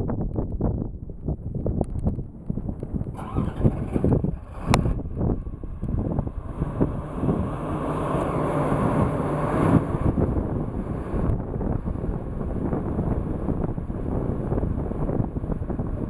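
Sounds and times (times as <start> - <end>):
wind buffeting microphone: 0.0 - 16.0
diesel engine and hydraulics: 2.4 - 16.0.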